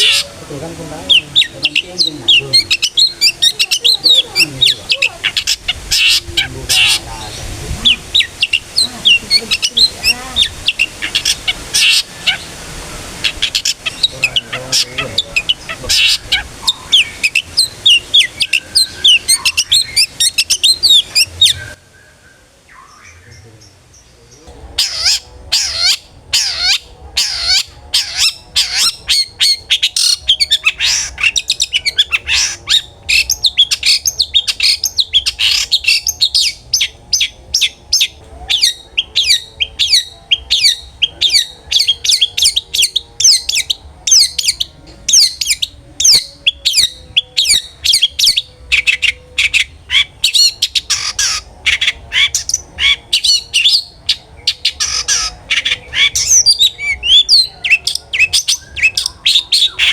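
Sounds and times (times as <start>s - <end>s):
bird singing harsh falling notes: 0.0s - 12.6s, 13.2s - 59.9s.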